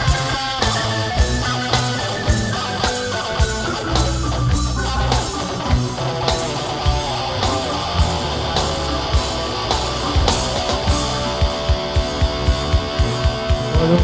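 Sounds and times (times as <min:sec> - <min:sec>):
drum kit steady beat: 0:00.0 - 0:14.0
guitar and bass low notes: 0:00.0 - 0:14.0.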